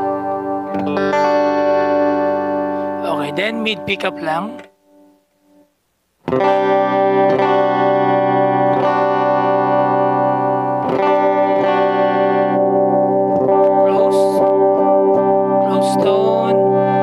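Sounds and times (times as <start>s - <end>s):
clean electric guitar chords: 0.0s - 17.0s.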